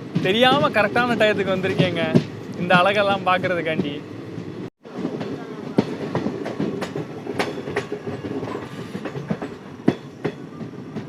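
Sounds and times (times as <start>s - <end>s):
train rumble: 0.0s - 11.0s
wheels clicking over rail joints: 0.0s - 11.0s.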